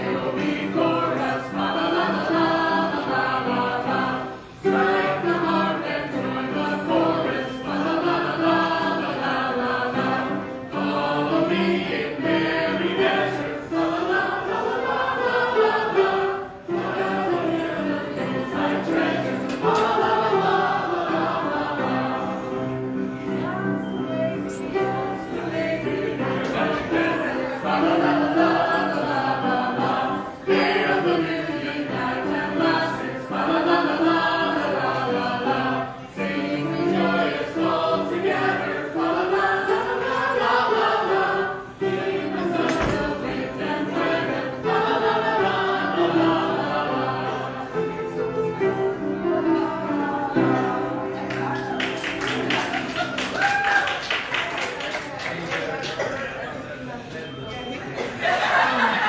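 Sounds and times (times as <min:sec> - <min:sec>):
group singing carol: 0:00.0 - 0:53.5, 0:56.0 - 0:59.0.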